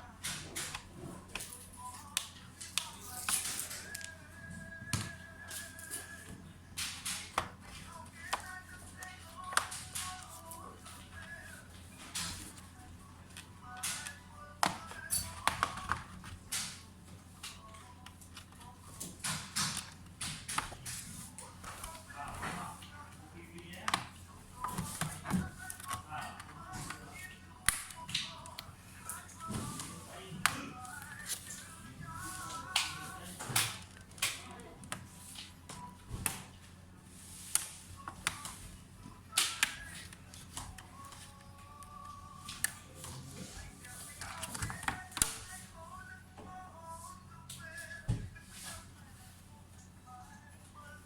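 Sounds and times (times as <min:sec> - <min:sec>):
background music: 0:00.0 - 0:36.8, 0:37.5 - 0:51.0.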